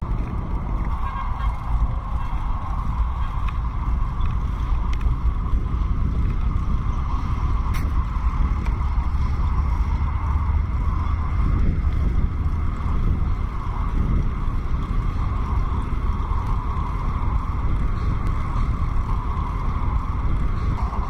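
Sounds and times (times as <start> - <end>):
bicycle rolling noise: 0.0 - 21.0
wind buffeting microphone: 0.0 - 21.0.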